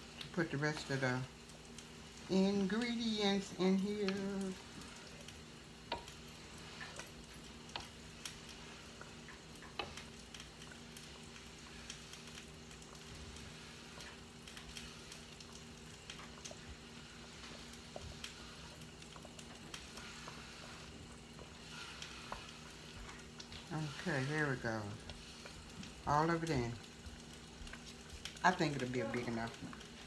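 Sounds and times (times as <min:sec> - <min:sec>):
liquid sizzling in a pot: 0:00.0 - 0:30.0.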